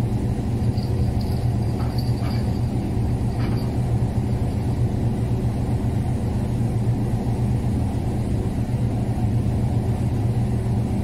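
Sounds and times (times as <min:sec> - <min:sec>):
ship engine droning: 0:00.0 - 0:11.0.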